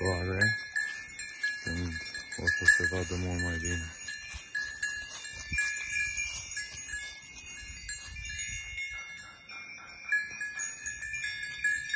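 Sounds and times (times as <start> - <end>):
goat bells clinking: 0.0 - 11.9.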